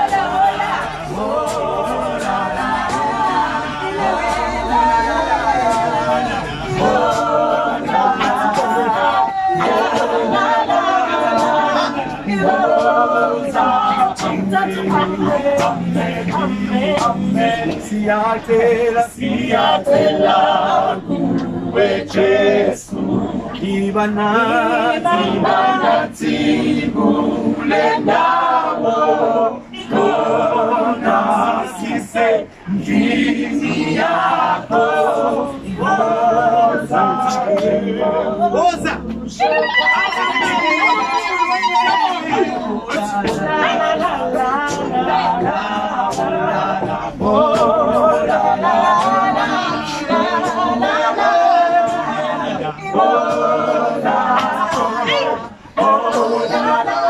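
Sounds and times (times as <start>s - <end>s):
group singing a cappella: 0.0s - 57.0s.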